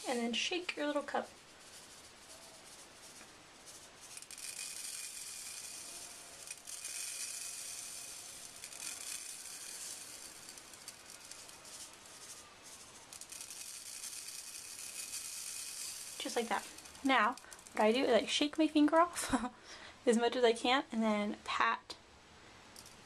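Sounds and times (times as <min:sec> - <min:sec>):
micro beads rattling: 0:00.0 - 0:19.2, 0:22.7 - 0:23.0.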